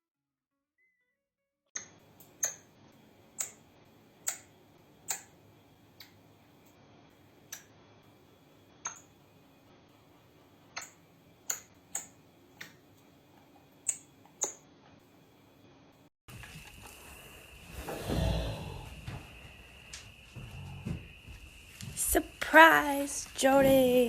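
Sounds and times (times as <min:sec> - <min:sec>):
faint steady hum: 0:01.8 - 0:24.0.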